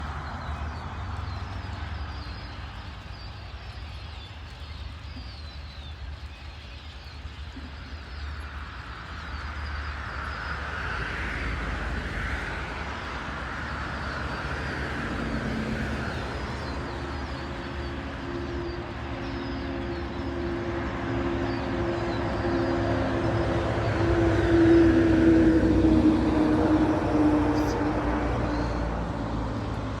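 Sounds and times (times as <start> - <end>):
small birds chirping: 0.0 - 22.8, 26.4 - 30.0.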